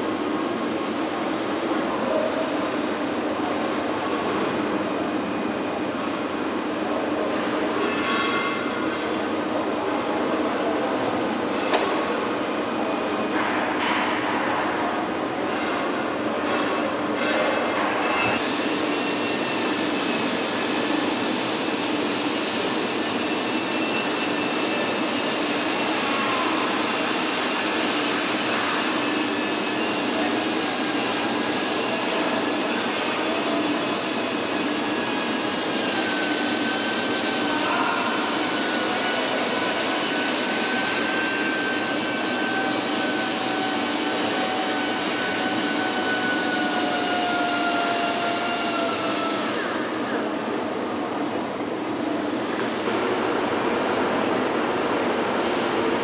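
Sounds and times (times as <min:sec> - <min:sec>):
machinery and ventilation hum: 0:00.0 - 0:56.0.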